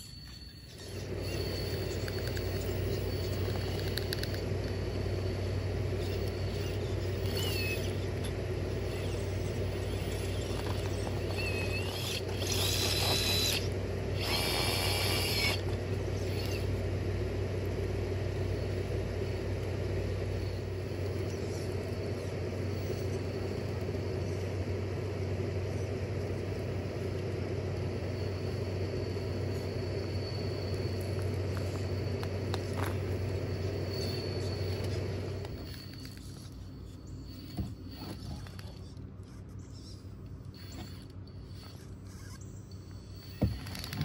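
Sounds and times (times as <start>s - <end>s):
low motor and drivetrain hum: 0.0s - 44.0s.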